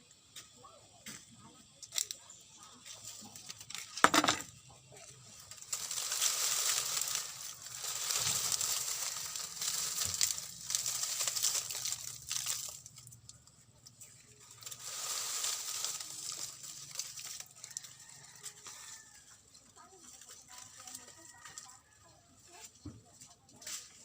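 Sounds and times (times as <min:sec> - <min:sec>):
dry leaves rustling and crackling: 0:01.9 - 0:24.0.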